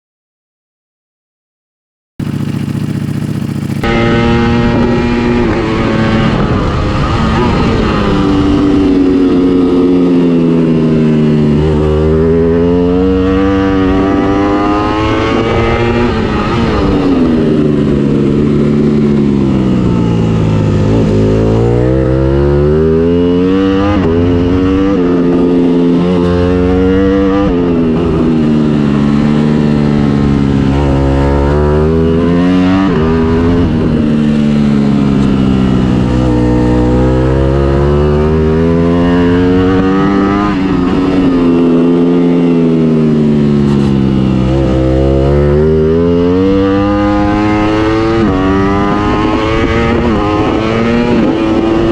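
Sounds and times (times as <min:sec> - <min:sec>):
motorcycle engine revving: 0:02.2 - 0:51.9.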